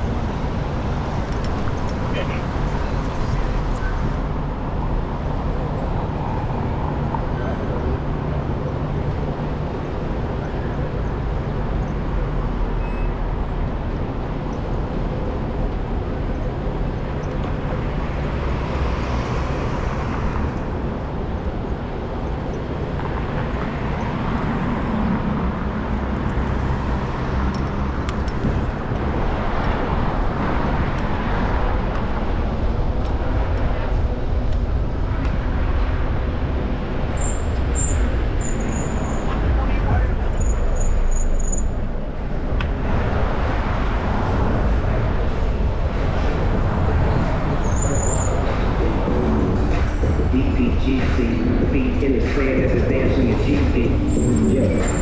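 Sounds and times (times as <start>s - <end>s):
wind rumble on microphone: 0.0s - 51.7s
city street traffic: 0.0s - 55.0s.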